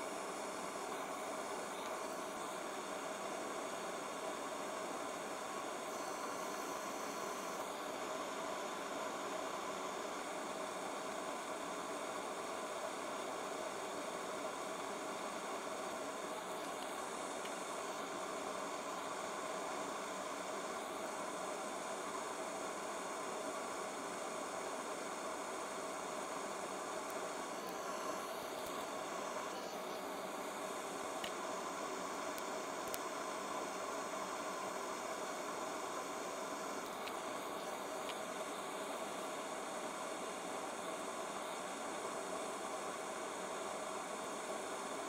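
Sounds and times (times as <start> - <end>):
faint hum: 0.0 - 45.0
steady hiss: 0.0 - 45.0.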